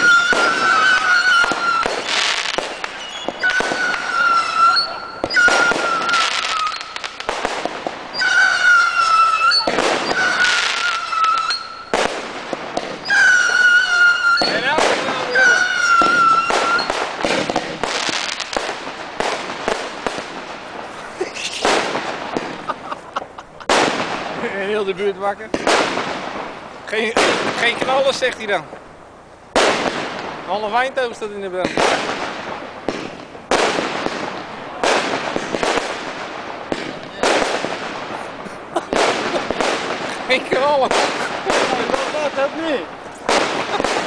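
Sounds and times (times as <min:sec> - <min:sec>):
whistling firework: 0:00.0 - 0:20.5, 0:21.3 - 0:24.3, 0:31.6 - 0:44.0
fireworks bangs and crackling pops: 0:00.0 - 0:44.0.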